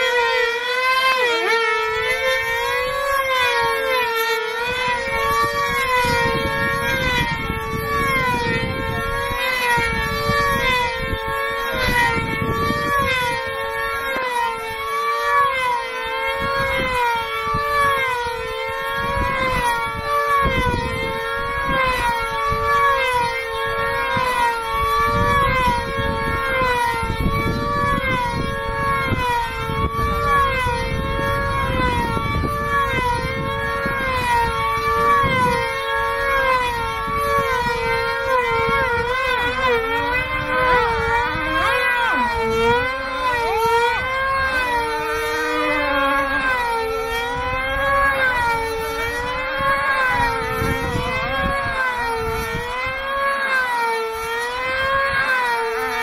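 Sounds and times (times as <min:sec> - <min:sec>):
model airplane engines screaming: 0:00.0 - 0:56.0
wind on microphone: 0:04.6 - 0:14.9, 0:16.2 - 0:53.4.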